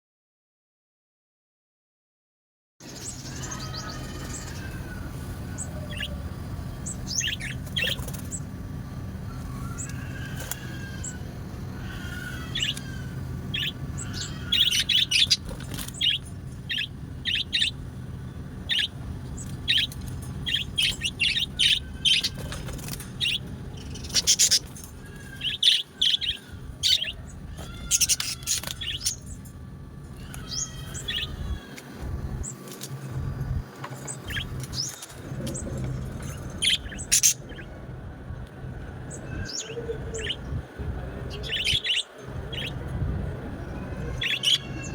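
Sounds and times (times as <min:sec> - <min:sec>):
small birds chirping: 0:02.8 - 0:44.9
steady low hum: 0:02.8 - 0:44.9.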